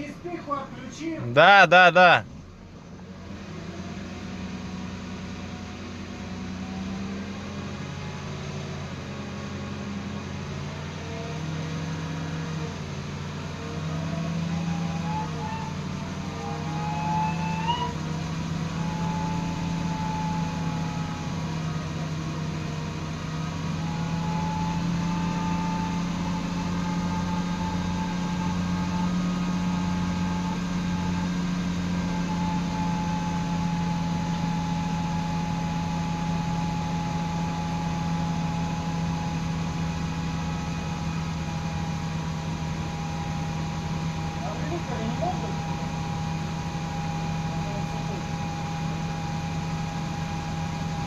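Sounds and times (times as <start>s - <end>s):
drivetrain and road drone: 0.0s - 51.0s.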